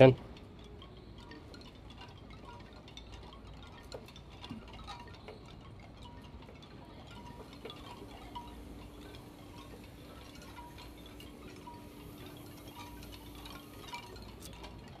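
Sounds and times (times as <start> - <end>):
coffee beans tumbling in drum: 0.9 - 15.0.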